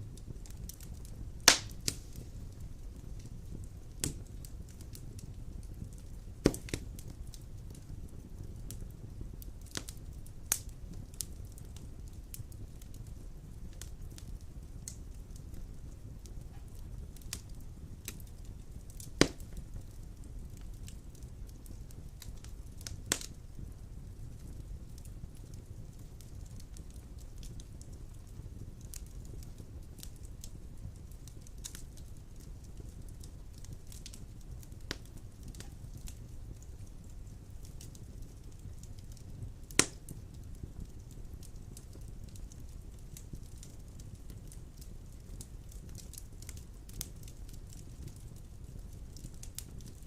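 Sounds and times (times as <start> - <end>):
loud pops from burning logs: 0.0 - 50.0
wood fire rumbling and crackling: 0.0 - 50.0.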